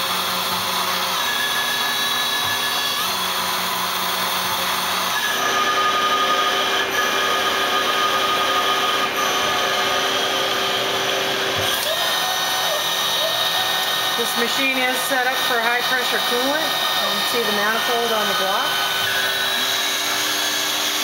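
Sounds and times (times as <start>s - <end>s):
lathe mechanical whine: 0.0s - 21.0s.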